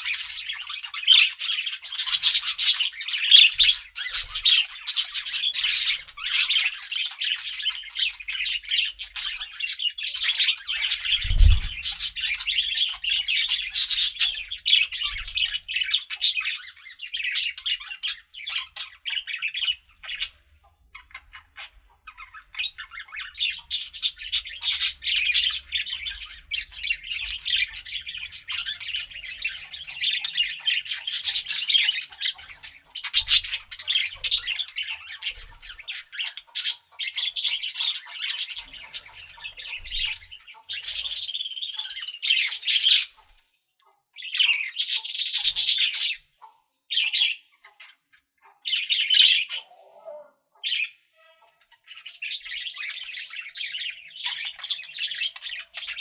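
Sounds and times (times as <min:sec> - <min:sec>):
budgerigars chattering: 0:00.0 - 0:43.3, 0:44.2 - 0:56.0.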